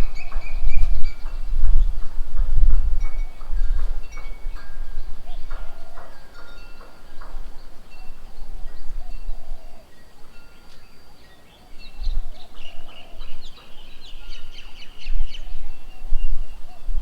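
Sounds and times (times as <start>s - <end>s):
birds chirping and chattering: 0.0s - 17.0s.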